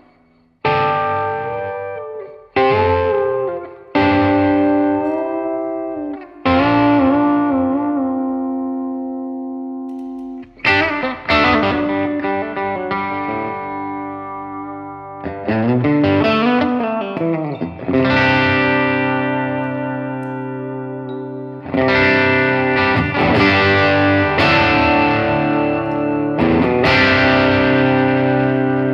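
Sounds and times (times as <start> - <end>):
clean electric guitar: 0.0 - 28.9.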